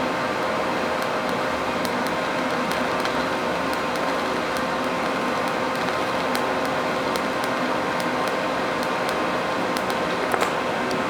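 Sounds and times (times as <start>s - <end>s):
faint steady hum: 0.0s - 11.0s
welding arc hissing: 0.0s - 11.0s
light ticks: 0.4s - 9.2s, 9.8s - 11.0s.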